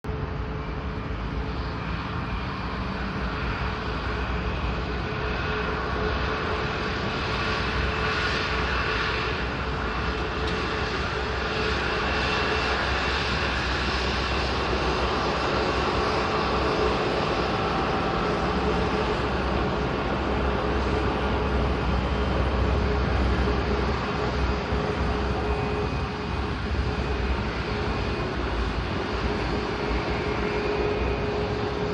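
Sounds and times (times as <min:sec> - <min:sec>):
jet engines rumbling: 0:00.1 - 0:31.9.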